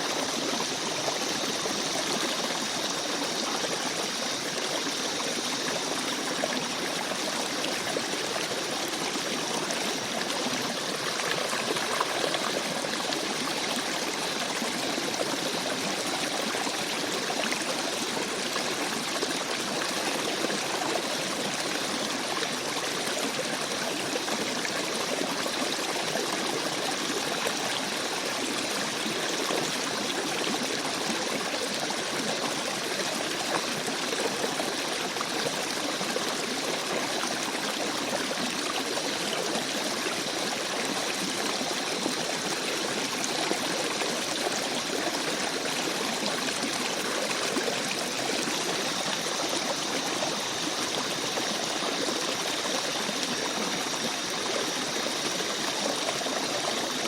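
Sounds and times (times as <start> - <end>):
brook water flowing over stones: 0.0 - 57.0.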